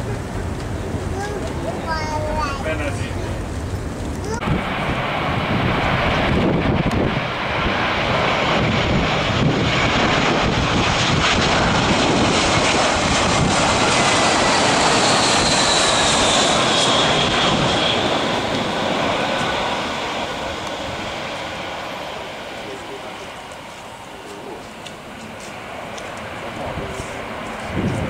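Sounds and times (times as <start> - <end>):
high engine whine: 0.0 - 28.0
jet engines roaring: 0.0 - 28.0.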